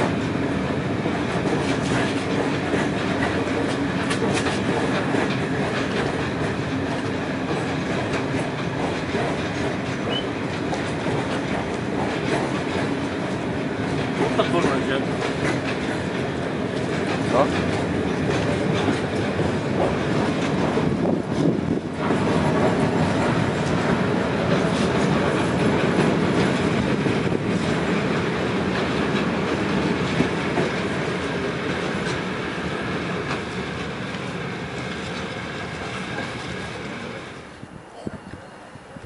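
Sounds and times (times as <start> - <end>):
train wheels clattering over rail joints: 0.0 - 37.4.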